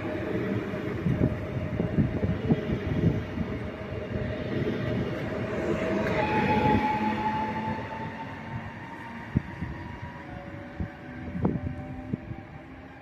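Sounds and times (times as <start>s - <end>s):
electric train whine: 0.0s - 13.0s.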